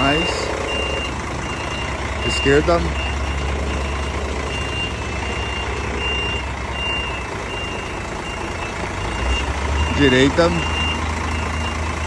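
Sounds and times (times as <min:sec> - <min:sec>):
diesel engine running: 0:00.0 - 0:12.0
reversing alarm beeping: 0:00.0 - 0:12.0.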